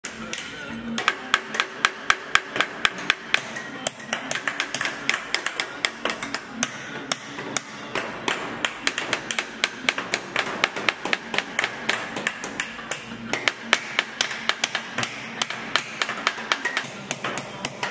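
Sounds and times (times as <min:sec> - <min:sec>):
hammer tapping on metal tool: 0:00.0 - 0:17.9.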